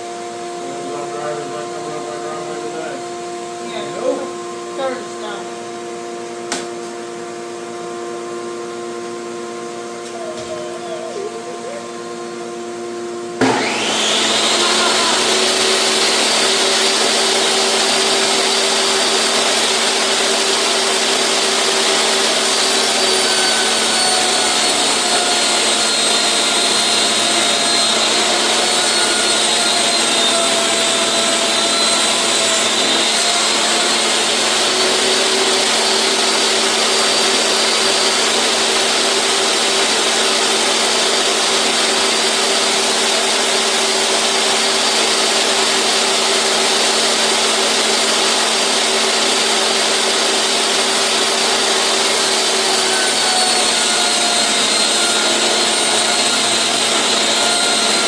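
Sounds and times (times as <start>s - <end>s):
table saw cutting plexiglass: 0.6s - 3.0s, 13.3s - 58.0s.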